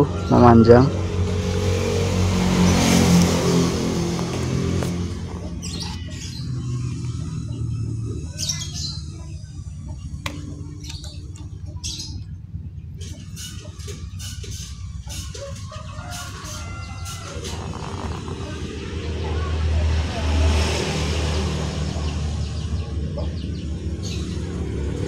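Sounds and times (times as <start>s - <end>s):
birds chirping: 0.0s - 25.0s
vehicle engine running: 0.0s - 25.0s.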